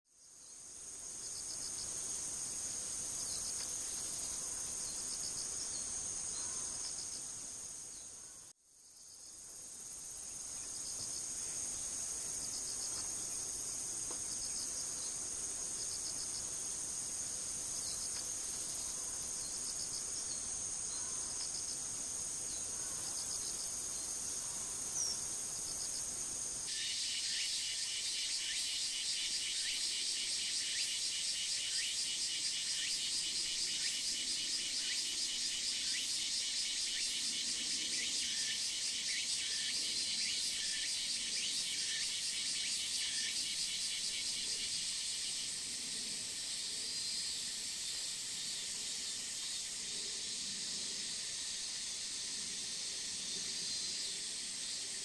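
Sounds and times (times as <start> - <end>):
insects trilling and chirping: 0.1 - 55.0.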